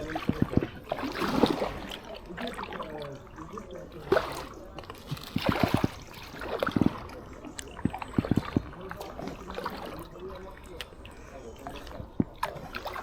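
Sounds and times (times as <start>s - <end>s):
gurgling river water: 0.0s - 13.0s
paddle splashing into water: 0.0s - 13.0s.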